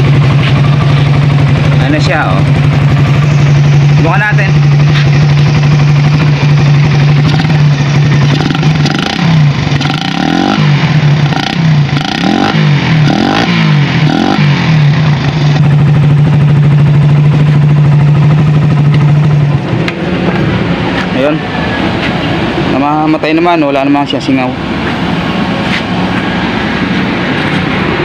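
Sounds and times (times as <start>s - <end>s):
engine throttle blips: 0.0s - 28.0s
motorcycle engine idling: 0.0s - 28.0s.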